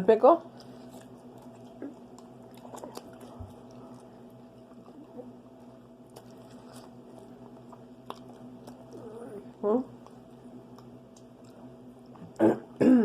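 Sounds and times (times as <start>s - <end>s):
low electrical hum: 0.0s - 13.0s
chewing and handling food: 0.4s - 12.4s.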